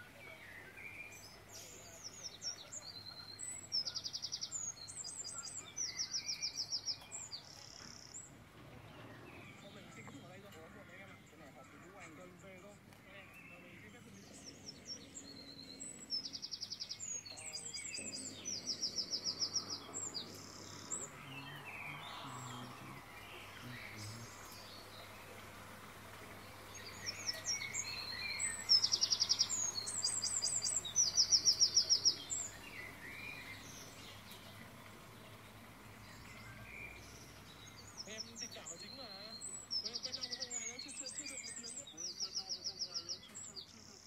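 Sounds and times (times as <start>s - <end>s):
songbird trilling: 0.0s - 8.3s, 9.0s - 44.0s
faint background hiss: 0.0s - 44.0s.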